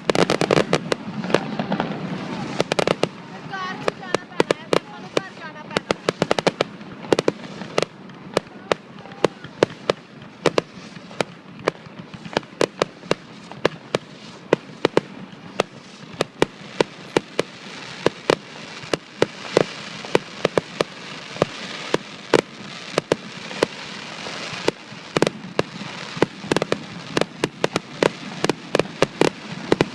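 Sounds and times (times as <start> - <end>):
fireworks crackling hiss: 0.0 - 29.9
fireworks sharp bangs: 0.0 - 29.9.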